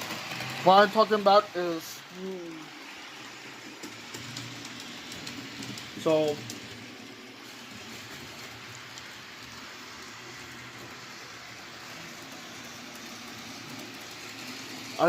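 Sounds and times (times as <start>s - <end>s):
model train motor whir: 0.0s - 15.0s.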